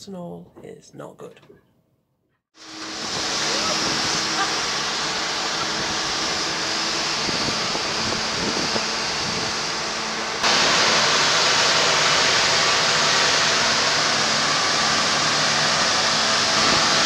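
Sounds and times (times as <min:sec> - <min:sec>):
excavator machinery noise: 0:02.6 - 0:17.0.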